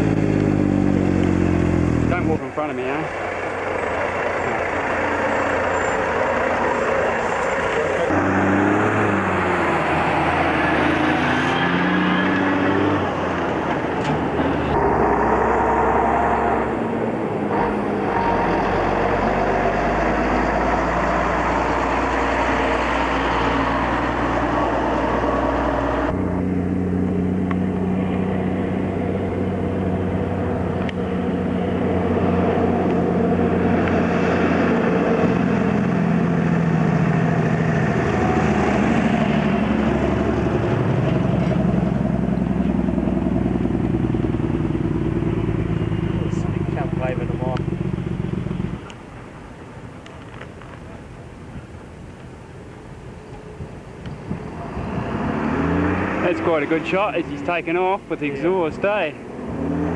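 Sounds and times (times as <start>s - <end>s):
diesel trucks driving past: 0.0s - 50.2s, 52.6s - 59.9s
tyre and road noise: 0.0s - 59.9s.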